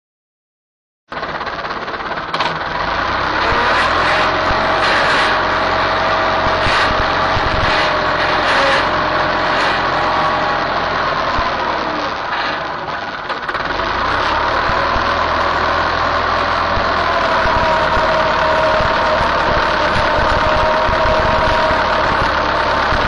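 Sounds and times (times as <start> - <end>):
tractor engine running: 1.1 - 23.0
steady whine: 3.4 - 13.5, 14.2 - 23.0.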